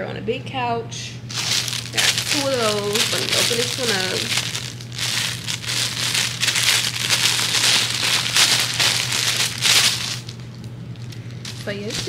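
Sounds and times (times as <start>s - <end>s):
steady low hum: 0.0s - 12.0s
plastic bag crinkling: 1.3s - 12.0s.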